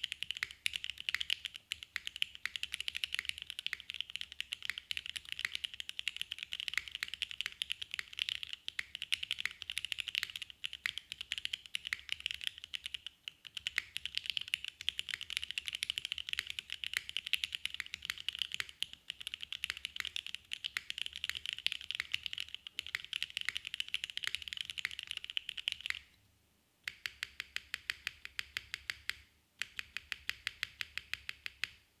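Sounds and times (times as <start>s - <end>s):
mechanical keyboard typing: 0.0s - 26.1s, 26.9s - 31.8s.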